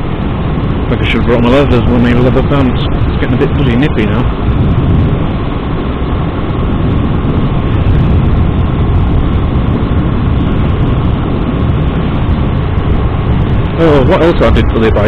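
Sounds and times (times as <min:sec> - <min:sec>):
motorcycle engine and exhaust: 0:00.0 - 0:15.0
wind rushing over microphone: 0:00.0 - 0:15.0.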